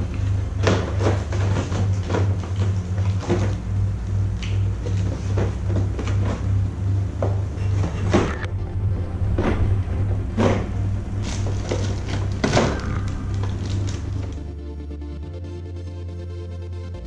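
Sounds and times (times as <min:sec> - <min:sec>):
music with pulsing bass beat: 0:00.0 - 0:17.0.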